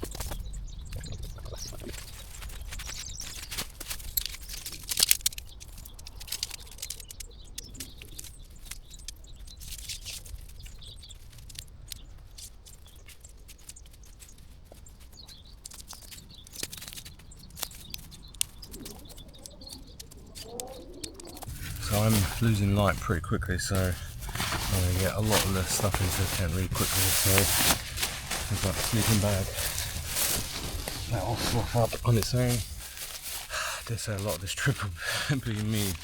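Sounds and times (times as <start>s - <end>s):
birds chirping: 0.0s - 36.0s
rustling: 0.0s - 36.0s.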